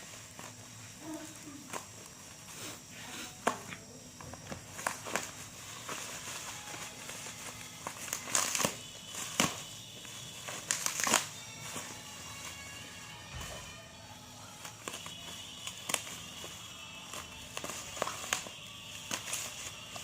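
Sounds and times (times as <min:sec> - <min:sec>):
packaging crinkling and rustling: 0:03.4 - 0:20.0.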